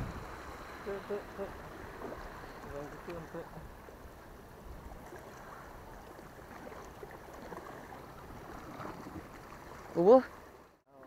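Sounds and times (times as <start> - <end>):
sea water at shoreline: 0.0 - 11.0
wind: 0.0 - 11.0.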